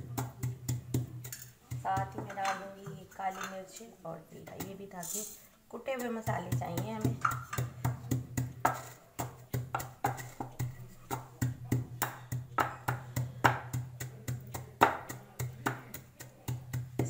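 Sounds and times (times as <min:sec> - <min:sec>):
pestle pounding in wooden mortar: 0:00.0 - 0:02.7, 0:06.0 - 0:17.0.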